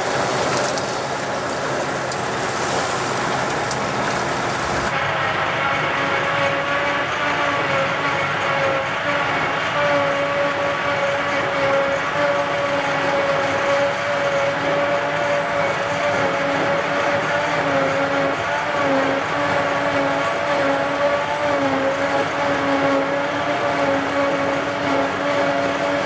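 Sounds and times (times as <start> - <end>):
forage harvester machine drone: 0.0 - 26.0.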